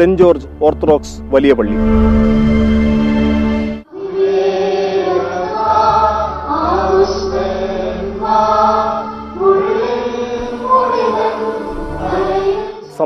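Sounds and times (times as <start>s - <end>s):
slow chanted singing: 1.7s - 13.0s.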